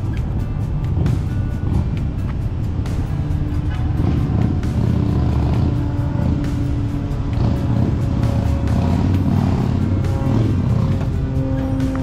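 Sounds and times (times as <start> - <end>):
city traffic rumble: 0.0 - 12.0
music playing: 0.0 - 12.0.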